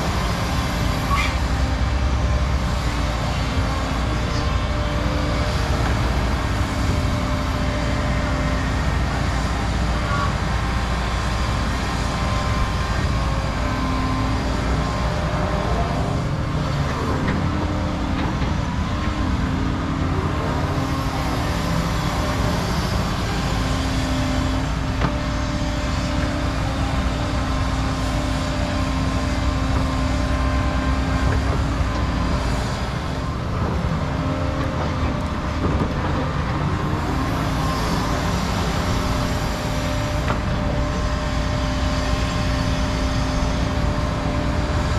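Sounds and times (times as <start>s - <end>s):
excavator diesel engines running: 0.0s - 44.9s.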